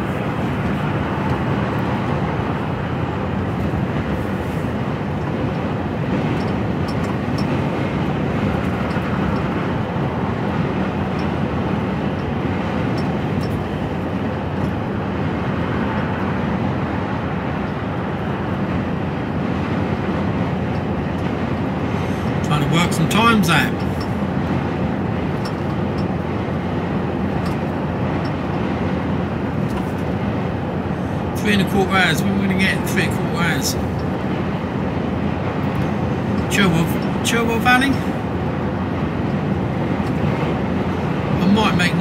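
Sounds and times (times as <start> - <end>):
diesel engine drone: 0.0 - 42.0
tyre and road rumble: 0.0 - 42.0.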